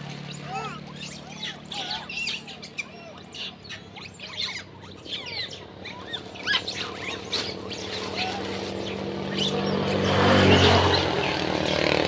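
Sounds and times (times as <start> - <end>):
monkeys squeaking and chirping: 0.0 - 11.9.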